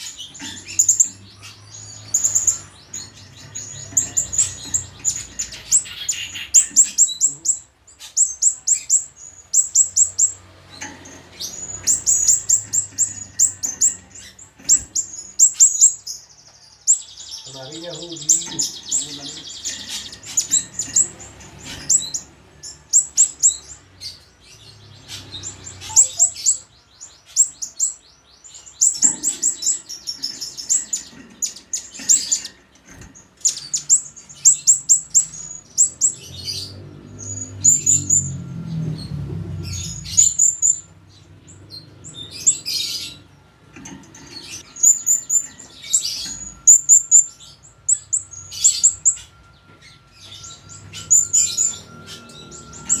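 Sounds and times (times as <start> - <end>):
caged songbirds chirping and trilling: 0.0 - 53.0.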